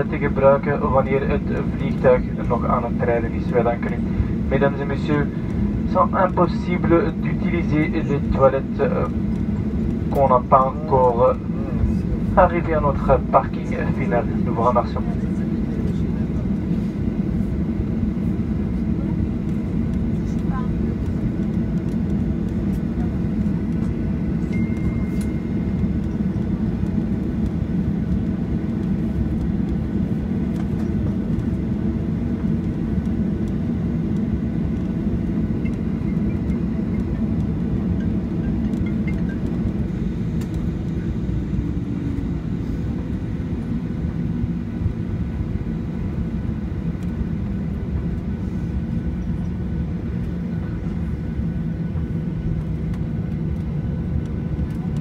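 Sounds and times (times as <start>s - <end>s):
jet engines idling in cabin: 0.0s - 55.0s.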